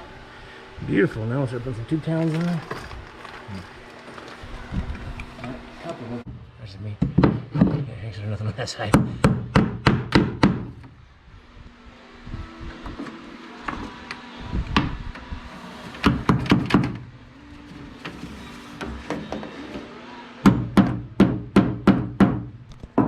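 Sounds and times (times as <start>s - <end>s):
fan humming: 0.0s - 23.0s.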